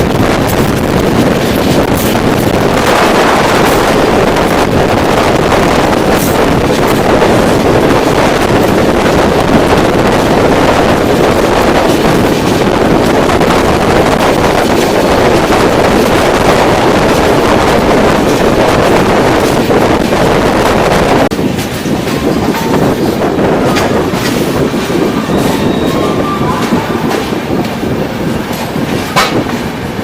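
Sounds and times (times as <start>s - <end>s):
moving passenger train: 0.0s - 30.0s
wind buffeting microphone: 0.0s - 30.0s.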